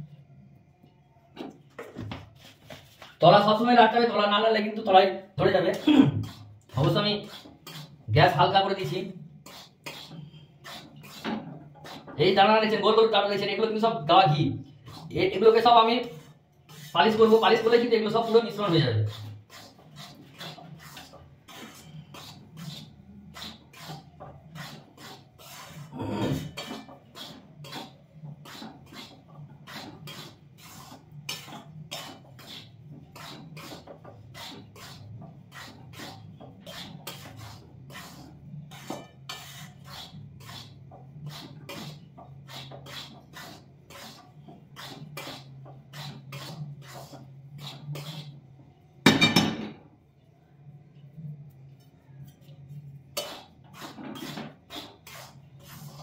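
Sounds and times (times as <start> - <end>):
steel spoon scraping a pan: 6.2 - 13.6, 14.8 - 48.4, 51.8 - 56.0.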